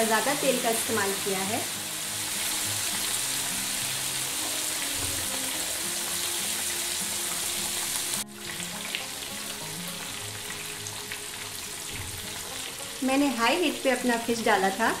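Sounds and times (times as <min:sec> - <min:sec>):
background music with low notes: 0:00.0 - 0:15.0
fish deep-frying in oil: 0:00.0 - 0:15.0.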